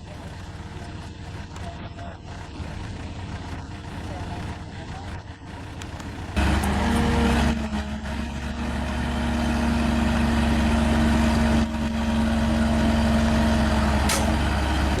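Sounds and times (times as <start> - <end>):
heavy equipment engine droning: 0.0 - 15.0.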